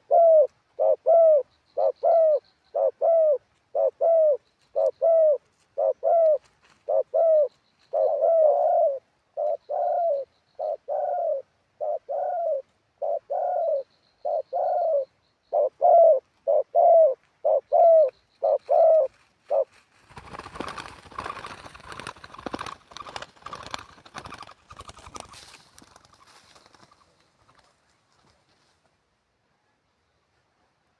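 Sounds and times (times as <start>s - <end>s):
dove cooing: 0.0s - 24.9s.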